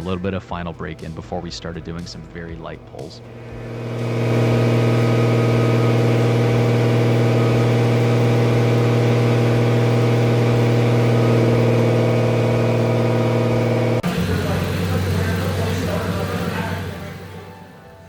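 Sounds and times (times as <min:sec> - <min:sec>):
car engine running steadily: 0:03.3 - 0:18.0.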